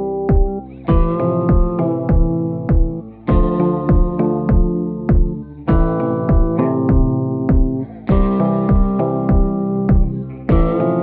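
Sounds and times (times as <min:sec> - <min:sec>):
low thumping beat: 0:00.0 - 0:11.0
synthesizer and electric piano chords: 0:00.0 - 0:11.0.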